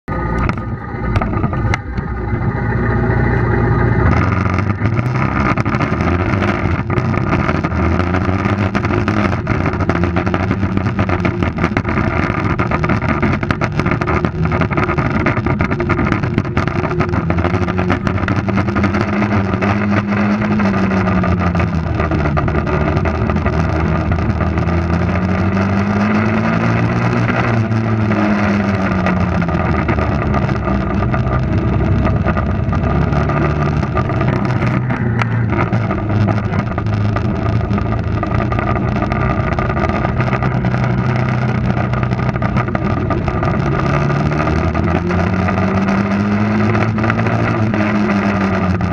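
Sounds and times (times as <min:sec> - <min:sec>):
quad bike engine running: 0:00.1 - 0:48.9.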